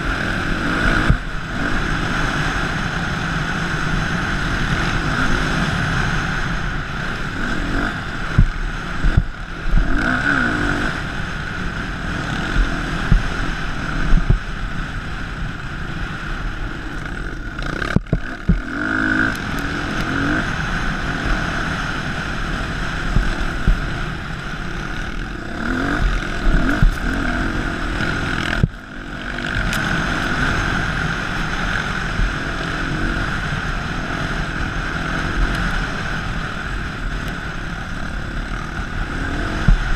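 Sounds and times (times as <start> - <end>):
dirt bike engine under throttle: 0.0 - 39.9
wind on microphone: 0.0 - 39.9.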